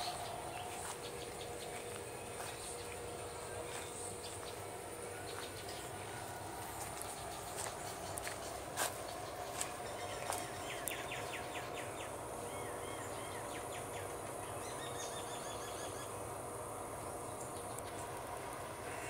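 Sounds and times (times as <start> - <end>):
background hiss and hum: 0.0 - 19.0.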